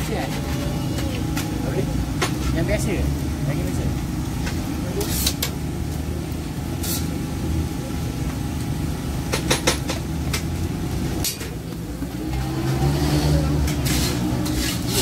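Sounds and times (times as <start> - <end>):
low market rumble: 0.0 - 15.0.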